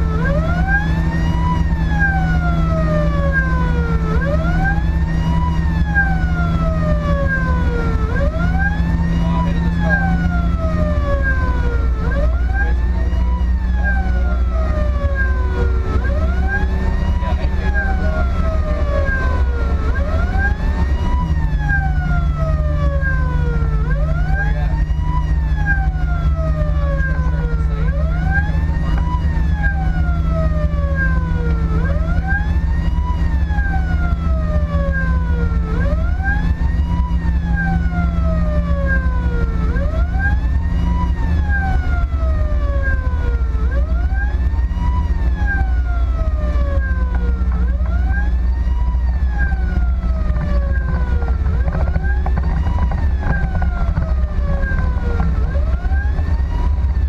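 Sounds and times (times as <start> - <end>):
electronic siren wailing: 0.0 - 57.0
road noise: 0.0 - 57.0
truck engine drone: 0.0 - 57.0.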